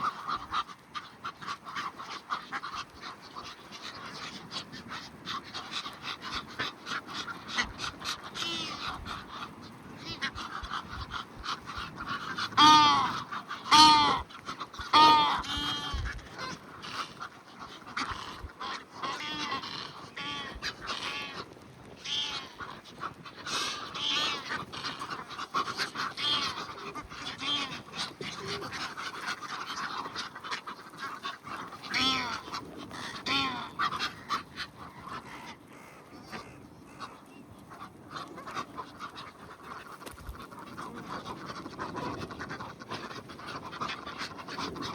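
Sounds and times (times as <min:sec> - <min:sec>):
geese harsh calls: 0:00.0 - 0:44.9
geese honking loudly: 0:00.0 - 0:44.9.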